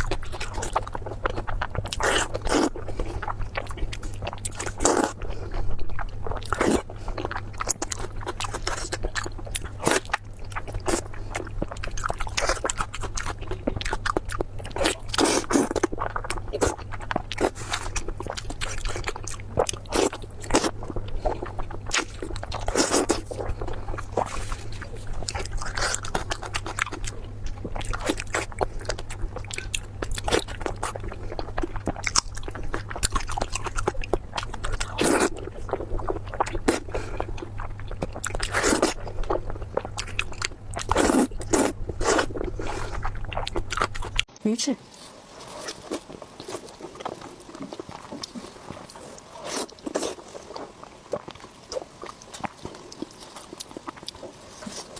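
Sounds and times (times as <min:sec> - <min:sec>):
crunchy chewing and biting: 0:00.0 - 0:44.3, 0:44.9 - 0:54.9
low hum: 0:00.0 - 0:51.7.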